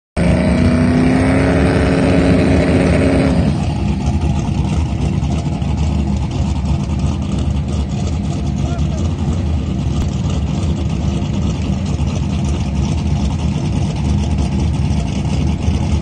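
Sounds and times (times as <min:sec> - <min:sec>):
engine at high revs: 0:00.2 - 0:16.0
engine lumpy low idle: 0:03.0 - 0:16.0.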